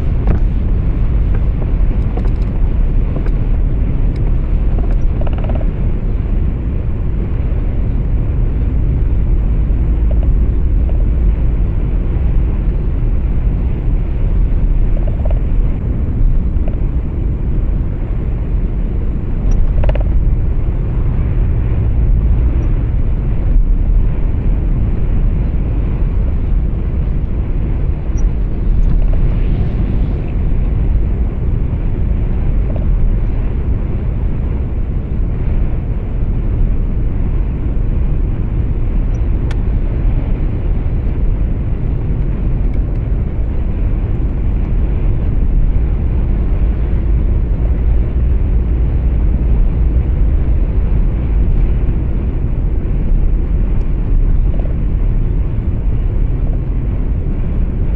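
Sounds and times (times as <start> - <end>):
truck engine and road rumble: 0.0 - 57.9.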